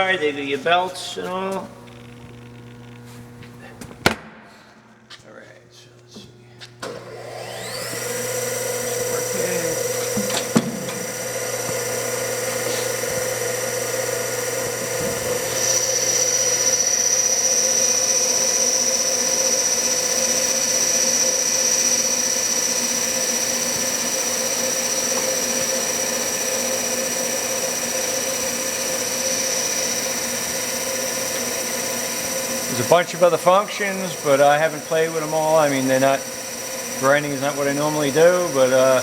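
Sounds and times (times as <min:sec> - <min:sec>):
grinder humming and whining: 0:00.0 - 0:05.1, 0:05.7 - 0:39.0
higher machine whine: 0:00.0 - 0:39.0.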